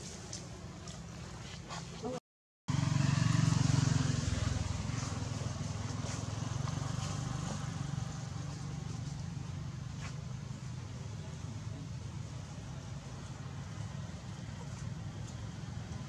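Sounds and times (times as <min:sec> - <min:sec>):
passing vehicle rumble: 0:02.7 - 0:16.0.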